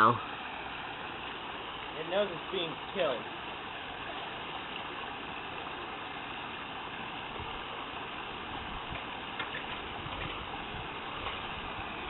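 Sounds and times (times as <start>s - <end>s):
swimming pool water hiss: 0.0s - 12.0s
water moving at pool edge: 0.0s - 12.0s.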